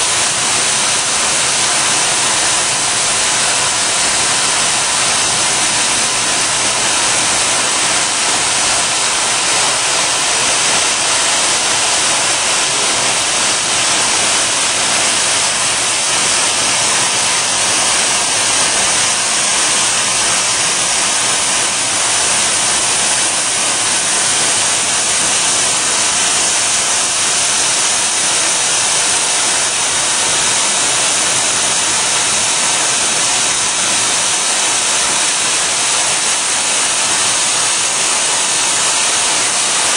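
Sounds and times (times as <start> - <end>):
coolant spray nozzle hissing: 0.0 - 39.9.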